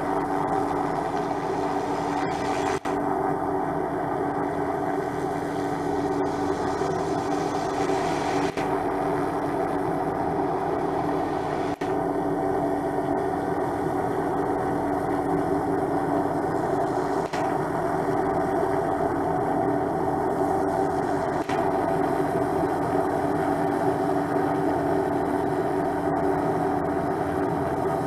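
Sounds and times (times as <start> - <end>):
helicopter turbine whine and rotor: 0.0 - 28.0.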